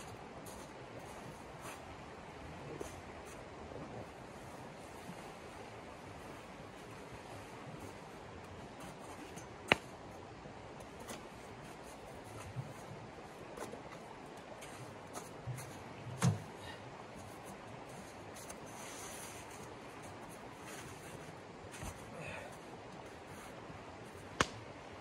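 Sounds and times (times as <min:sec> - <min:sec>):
stream flowing: 0:00.0 - 0:25.0.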